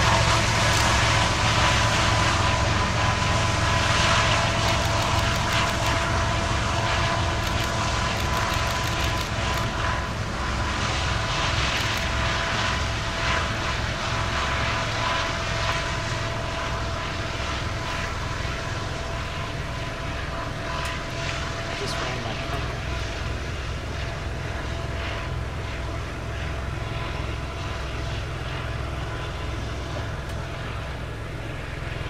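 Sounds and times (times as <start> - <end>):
diesel locomotive drone: 0.0 - 32.0
faint steady whine: 0.0 - 32.0.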